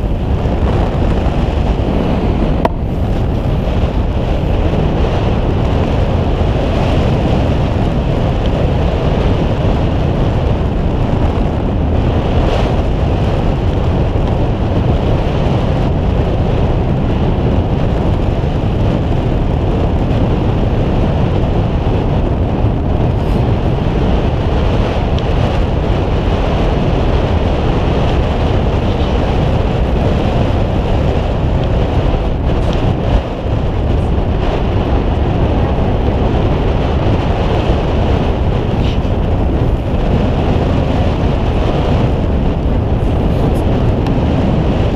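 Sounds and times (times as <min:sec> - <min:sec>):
boat engine rumble: 0:00.0 - 0:44.9
wind noise on microphone: 0:00.0 - 0:44.9.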